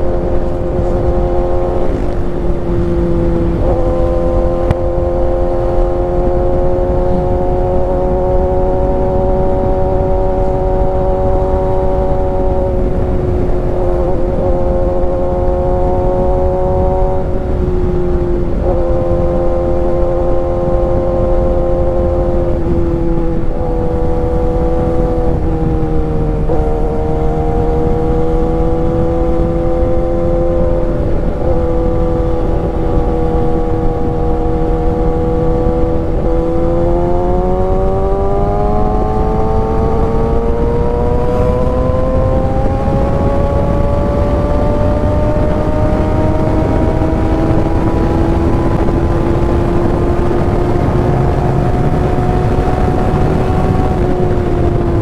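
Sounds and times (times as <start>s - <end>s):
motorcycle engine at high revs: 0.0s - 55.0s
wind and road noise: 0.0s - 55.0s.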